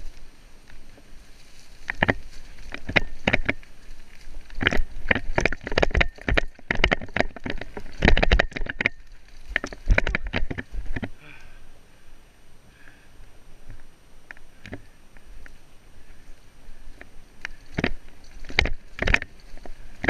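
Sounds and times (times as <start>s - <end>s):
bike clattering on dirt trail: 0.0s - 11.6s, 12.8s - 20.0s.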